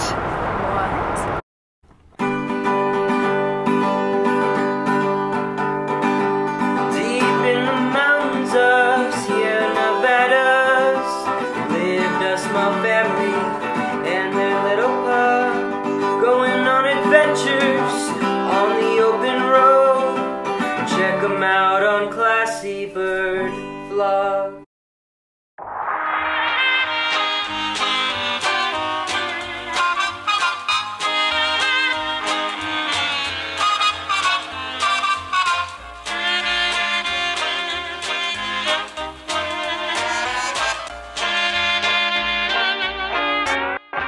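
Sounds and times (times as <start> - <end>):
guitar-led background music: 2.2 - 22.4, 26.5 - 44.0.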